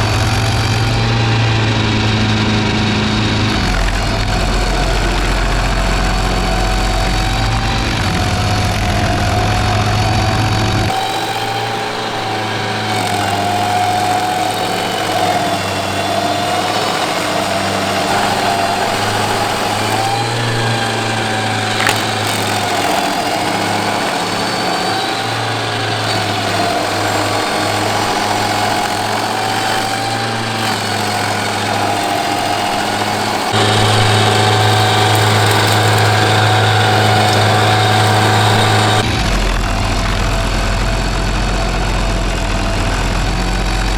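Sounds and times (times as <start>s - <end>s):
stump grinder engine under load: 0.0s - 43.9s.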